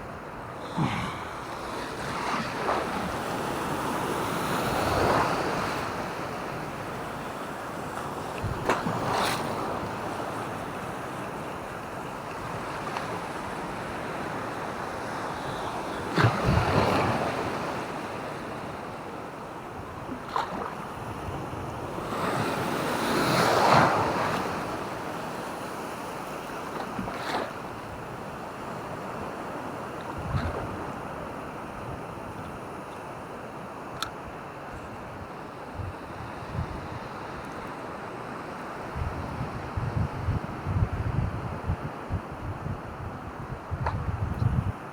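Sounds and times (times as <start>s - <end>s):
waves washing onto a beach: 0.0s - 42.1s.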